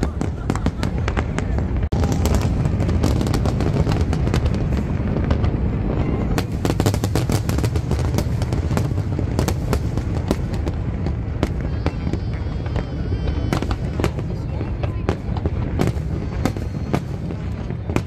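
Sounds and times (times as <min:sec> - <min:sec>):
fireworks pops and crackling: 0:00.0 - 0:18.0.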